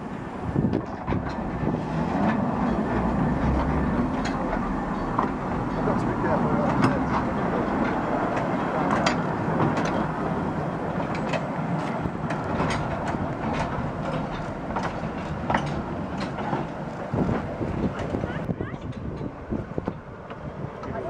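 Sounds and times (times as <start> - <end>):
train rumbling on track: 0.0 - 21.0
wheels clicking on rail joints: 0.0 - 21.0.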